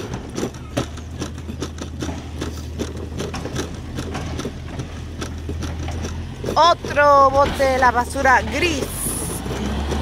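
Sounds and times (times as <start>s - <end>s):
low engine hum: 0.0s - 10.0s
plastic wheels rattling on concrete: 0.0s - 10.0s.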